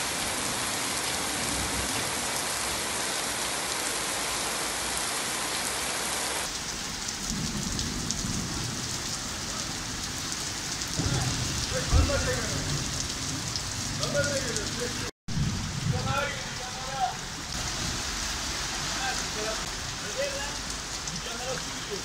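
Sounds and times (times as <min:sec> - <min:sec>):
rain falling on a street: 0:00.0 - 0:22.0.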